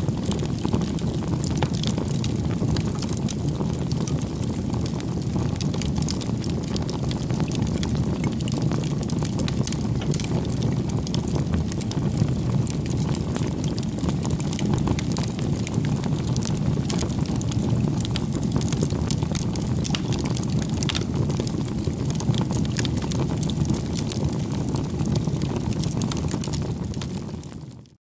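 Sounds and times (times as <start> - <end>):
campfire crackling and popping: 0.0 - 27.9
wind rumbling on microphone: 0.0 - 27.9.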